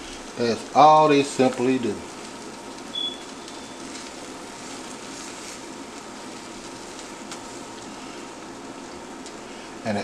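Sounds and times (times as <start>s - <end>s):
egg sizzling in frying pan: 0.0s - 9.9s.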